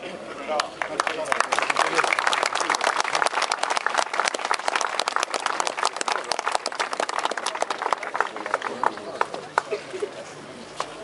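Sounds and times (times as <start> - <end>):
audience applauding: 0.6 - 9.8.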